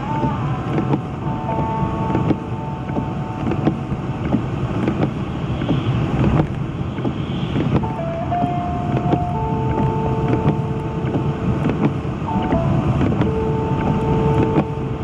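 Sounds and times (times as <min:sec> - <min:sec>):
tyres and engine rumbling: 0:00.0 - 0:15.0.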